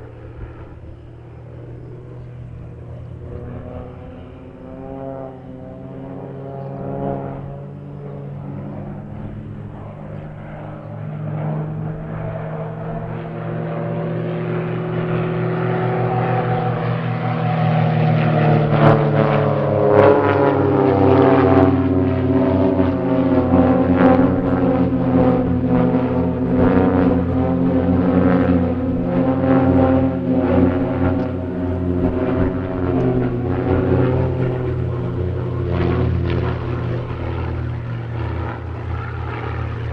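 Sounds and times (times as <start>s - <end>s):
propeller plane engines droning: 0.0s - 39.9s.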